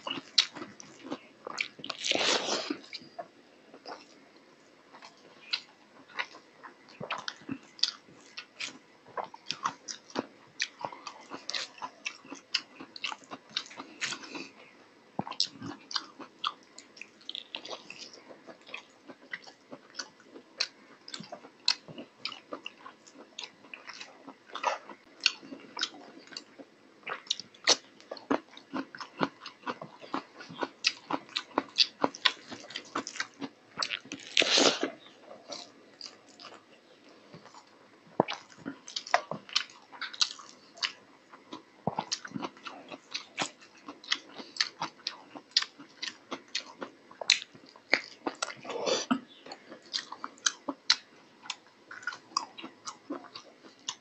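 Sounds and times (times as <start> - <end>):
chewing with lip smacks: 4.9 - 54.0.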